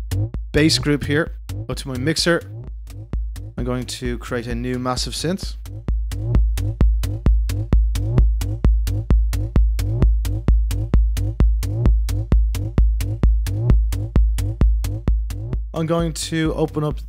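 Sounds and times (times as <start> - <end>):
synth bass line: 0.0 - 16.2
drum machine kick drum: 0.0 - 17.0.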